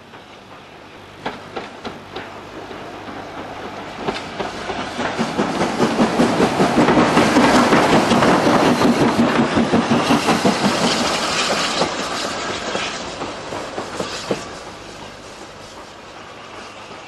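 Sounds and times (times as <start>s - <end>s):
steam locomotive rolling past: 0.0s - 17.0s
wheels clicking over rail joints: 0.0s - 17.0s.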